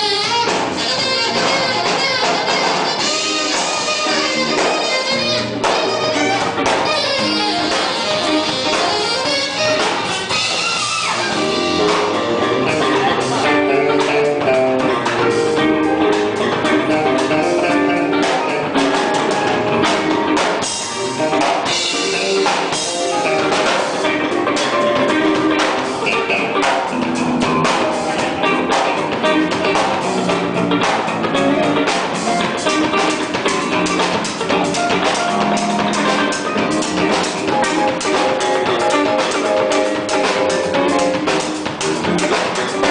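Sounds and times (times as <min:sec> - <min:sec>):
drum kit beat: 0:00.0 - 0:42.9
guitar: 0:00.0 - 0:42.9.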